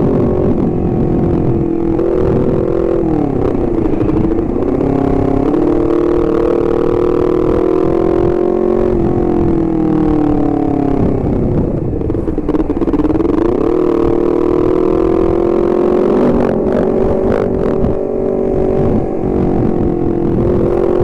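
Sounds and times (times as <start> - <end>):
motorcycle engine while riding: 0.0 - 21.0.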